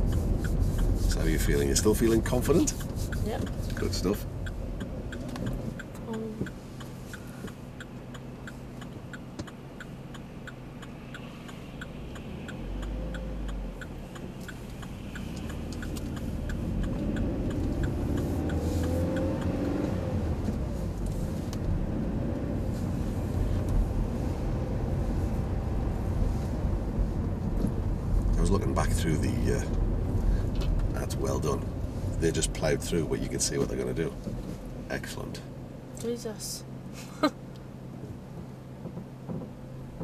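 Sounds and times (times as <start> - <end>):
turn signal ticking: 0.0 - 36.4
car engine and road noise: 0.0 - 40.0.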